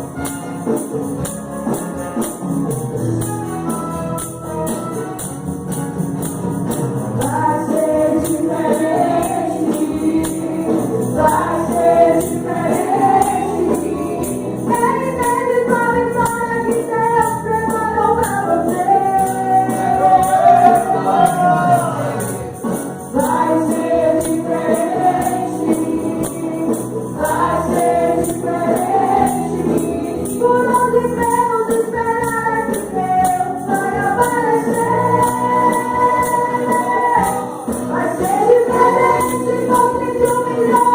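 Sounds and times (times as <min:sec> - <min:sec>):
tambourine shaken: 0:00.0 - 0:40.9
group singing gospel: 0:07.1 - 0:40.9.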